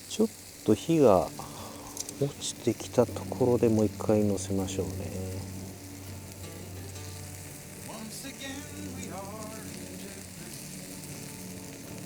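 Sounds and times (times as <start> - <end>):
meat sizzling on griddle: 0.0 - 12.0
steady low hum: 0.0 - 12.0
short wavering tones: 0.5 - 12.0.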